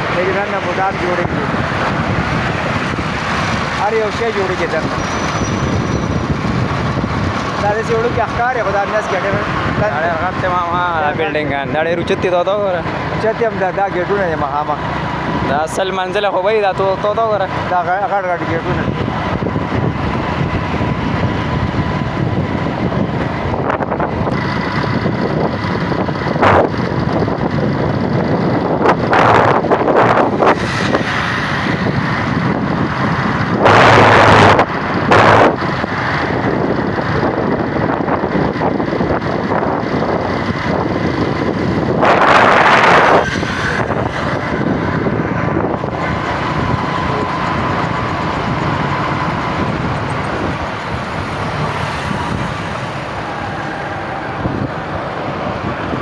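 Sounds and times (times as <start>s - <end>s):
road vehicle noise: 0.0s - 56.0s
wind buffeting microphone: 0.0s - 56.0s.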